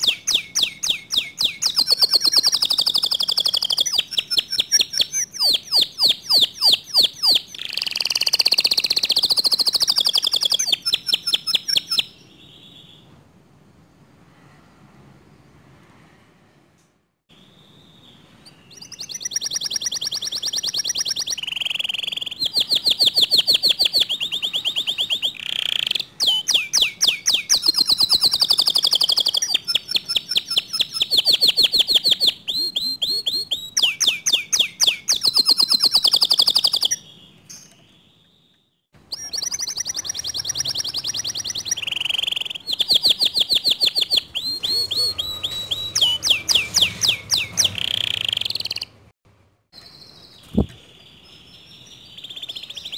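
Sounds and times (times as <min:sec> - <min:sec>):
canary singing trills: 0:00.0 - 0:13.1, 0:17.3 - 0:49.1, 0:49.8 - 0:52.9.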